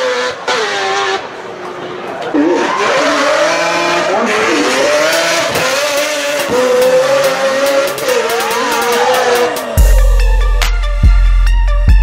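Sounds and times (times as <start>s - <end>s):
race car engine at high revs: 0.0s - 9.8s.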